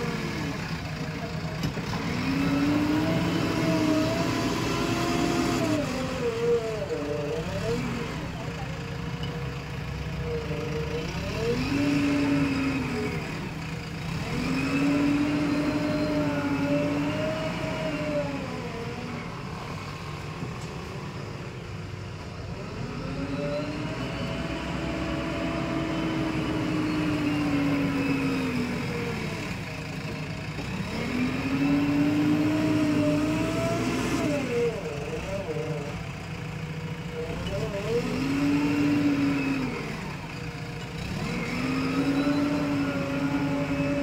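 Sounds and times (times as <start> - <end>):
diesel engine working under load: 0.0 - 44.0.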